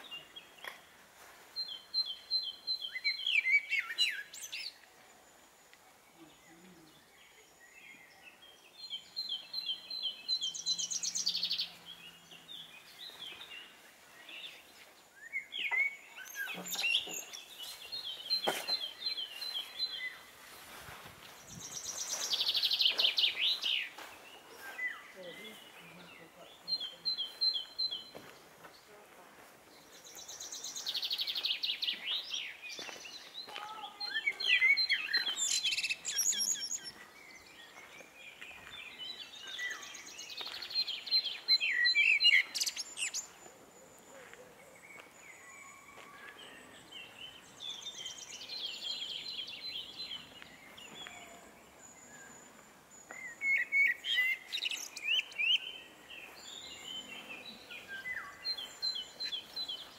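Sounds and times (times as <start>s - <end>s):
faint outdoor background noise: 0.0s - 59.9s
songbirds chirping and trilling: 0.0s - 59.9s.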